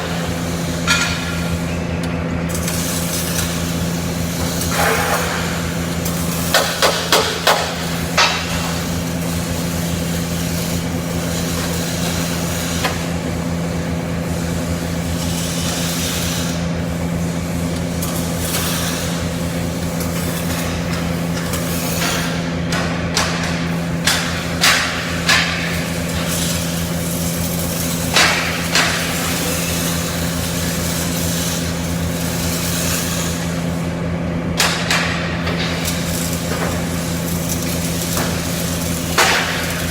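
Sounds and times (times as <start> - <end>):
welding equipment hum and hiss: 0.0 - 39.9.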